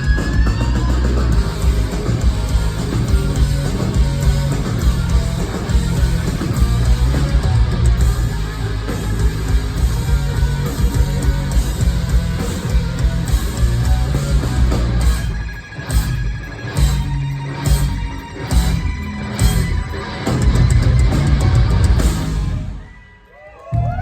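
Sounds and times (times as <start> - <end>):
hard rock band playing live: 0.0 - 23.2.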